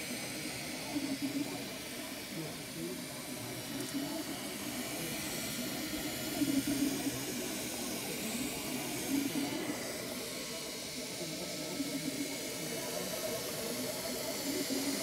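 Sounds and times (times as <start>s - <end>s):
fan whir: 0.0s - 15.0s
stepper motors humming: 0.0s - 15.0s.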